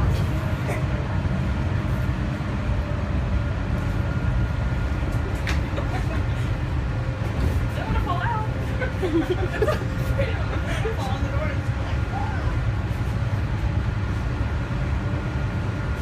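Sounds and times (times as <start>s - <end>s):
monorail low rumble: 0.0s - 16.0s.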